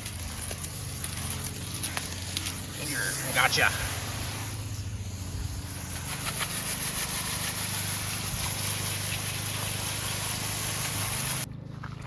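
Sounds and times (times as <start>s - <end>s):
garden hose spraying water: 0.0s - 11.5s.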